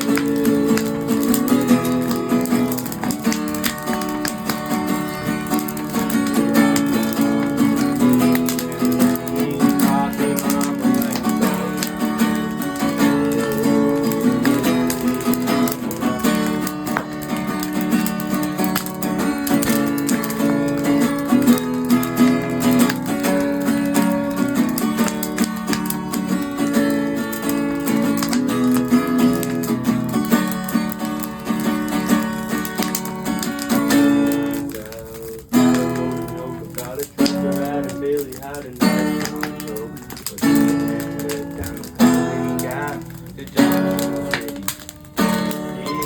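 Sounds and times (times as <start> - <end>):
guitar strumming and picking: 0.0 - 46.0.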